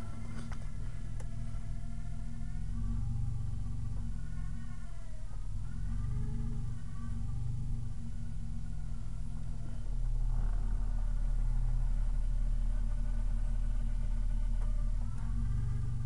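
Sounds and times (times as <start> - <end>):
engine hum: 0.0 - 16.0
wavering whine: 0.0 - 16.0.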